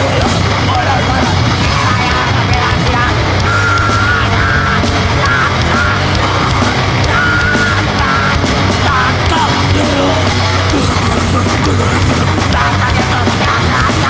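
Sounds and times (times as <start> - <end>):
distorted noise music: 0.0 - 14.0.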